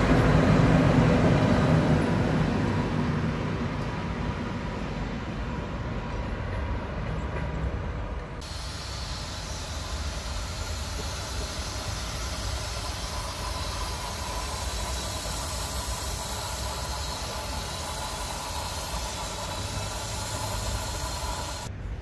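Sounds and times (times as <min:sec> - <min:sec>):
electric train hum and rumble: 0:00.0 - 0:22.0.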